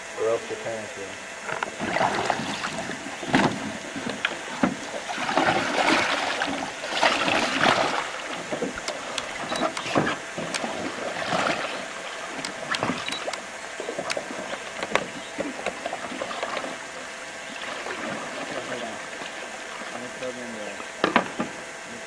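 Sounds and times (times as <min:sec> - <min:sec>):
paddles splashing through water: 0:01.6 - 0:21.0.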